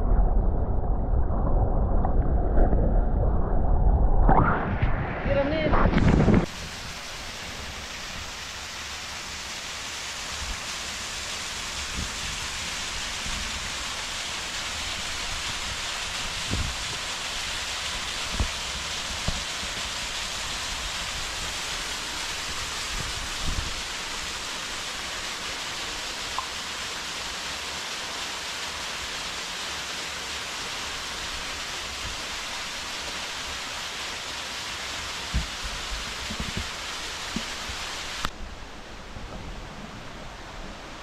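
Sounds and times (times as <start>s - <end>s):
water rushing: 4.4s - 41.0s.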